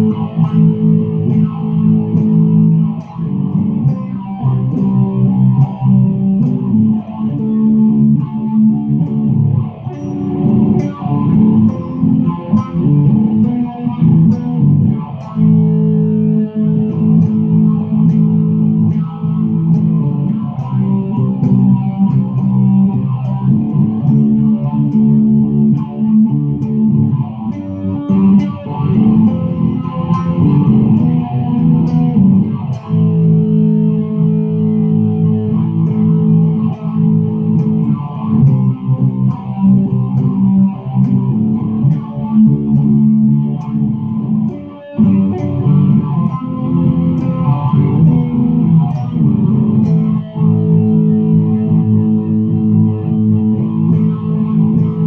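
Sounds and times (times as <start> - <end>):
electric guitar playing: 0.0 - 55.0.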